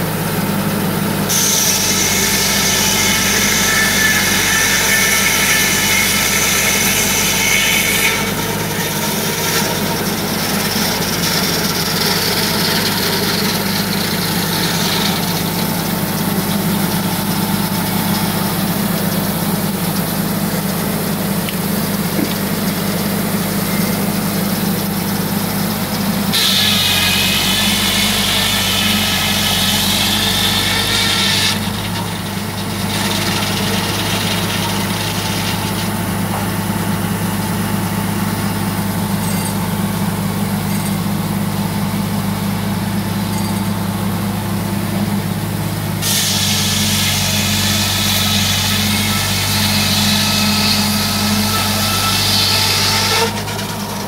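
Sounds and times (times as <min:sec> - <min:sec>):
circular saw cutting log: 0:00.0 - 0:54.0
sawmill engine drone: 0:00.0 - 0:54.0.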